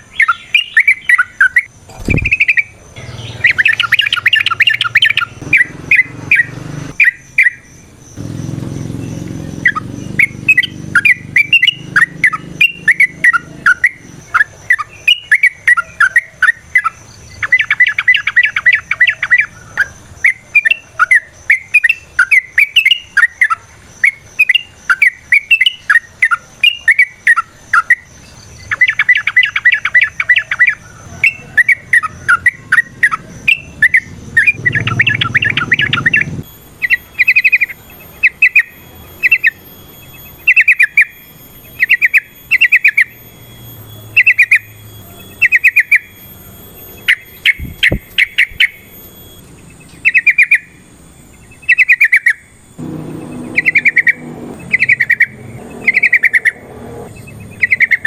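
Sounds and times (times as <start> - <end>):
overlapping bird chatter: 0.0 - 58.0.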